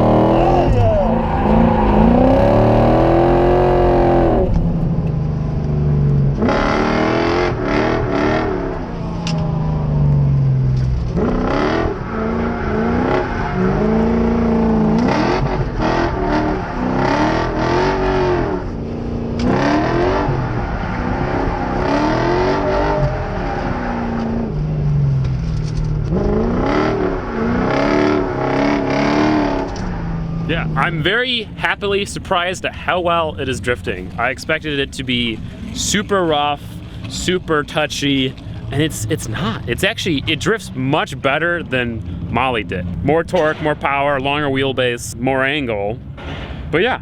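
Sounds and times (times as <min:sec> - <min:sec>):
engine revving hard: 0:00.0 - 0:04.6, 0:06.4 - 0:09.0, 0:11.1 - 0:18.8, 0:19.4 - 0:24.6, 0:26.0 - 0:44.4.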